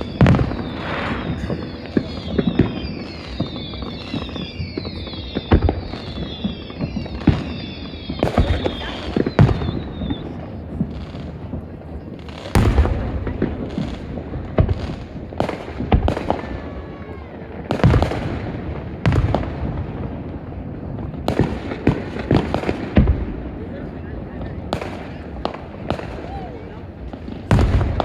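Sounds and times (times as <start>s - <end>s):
firework bangs and booms: 0.0s - 28.0s
firework pops and crackles: 0.0s - 28.0s.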